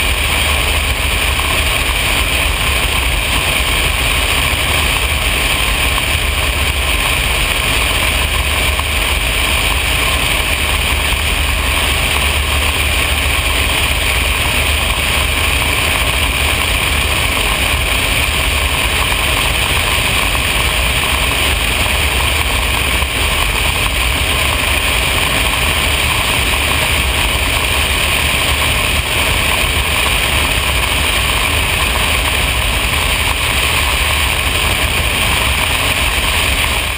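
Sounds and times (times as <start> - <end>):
propeller plane engine droning: 0.0 - 36.9.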